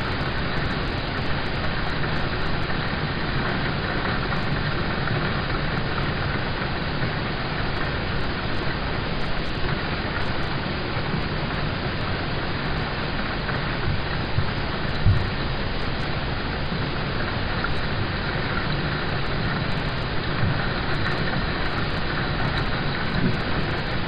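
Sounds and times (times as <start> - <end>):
rain on a car roof: 0.0 - 24.0.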